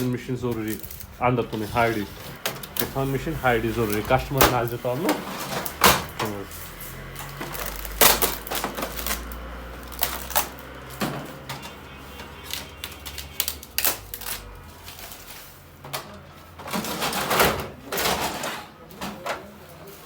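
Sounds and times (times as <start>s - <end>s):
clicks and knocks of handling parts: 2.2s - 3.1s, 3.8s - 19.6s.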